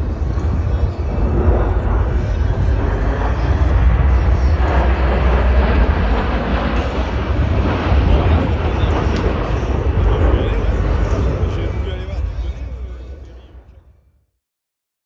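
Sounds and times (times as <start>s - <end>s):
jet engines rumbling: 0.0s - 13.9s.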